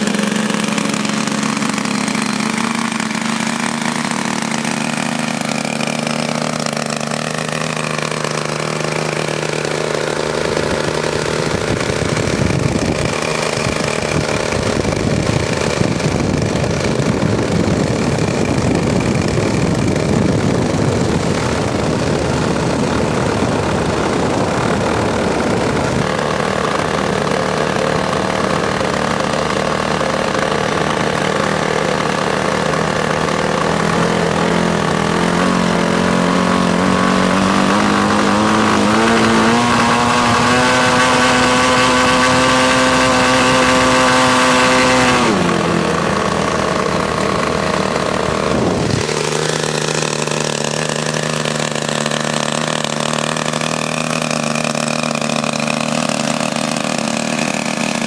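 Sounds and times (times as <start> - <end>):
model aircraft engine running: 0.0 - 58.0.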